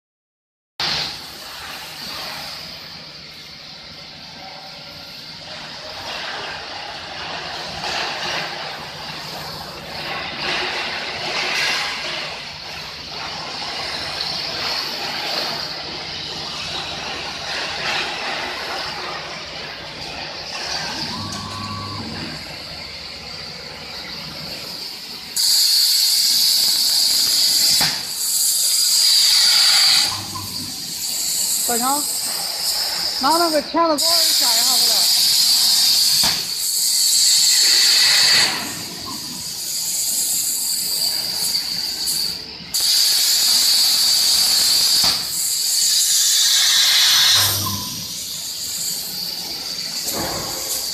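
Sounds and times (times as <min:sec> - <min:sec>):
machine noise: 0:00.8 - 0:50.9
plasma torch hissing: 0:00.8 - 0:50.9.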